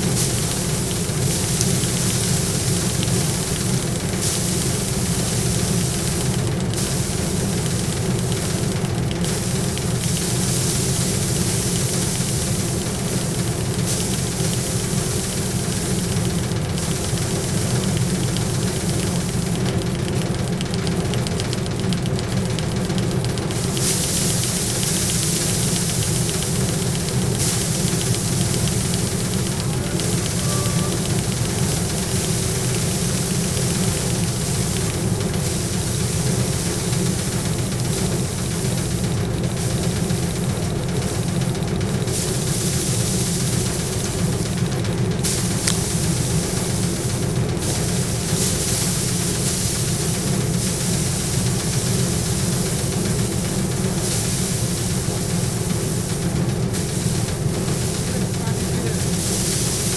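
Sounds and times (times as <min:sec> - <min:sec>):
dry hiss of grain and straw: 0:00.0 - 0:19.7, 0:23.4 - 0:59.9
thresher humming: 0:00.0 - 0:59.9.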